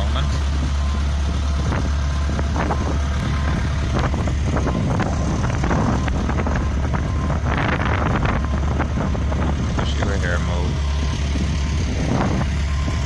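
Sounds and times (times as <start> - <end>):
engine droning: 0.0 - 13.0
wind buffeting microphone: 0.2 - 13.0.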